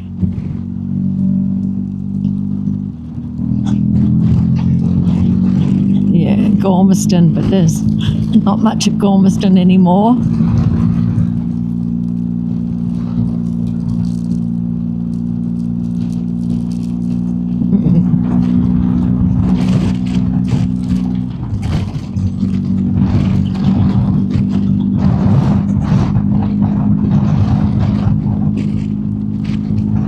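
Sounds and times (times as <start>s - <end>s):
motorcycle engine running: 0.0s - 30.0s
wind buffeting microphone: 2.3s - 14.0s, 17.2s - 30.0s.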